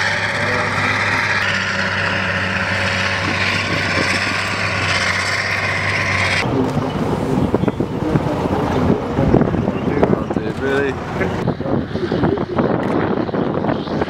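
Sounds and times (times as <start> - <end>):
tracked vehicle diesel engines: 0.0 - 14.0.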